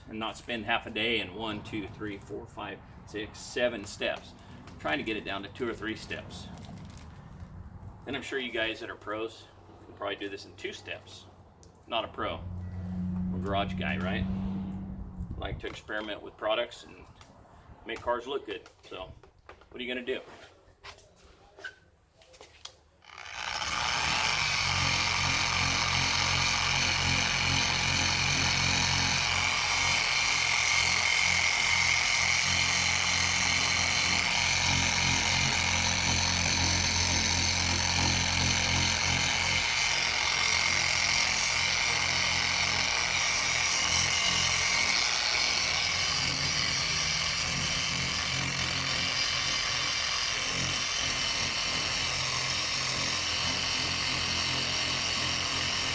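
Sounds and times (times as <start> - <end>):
power sander sanding plastic: 0.0 - 9.4, 10.0 - 17.3, 22.4 - 55.9.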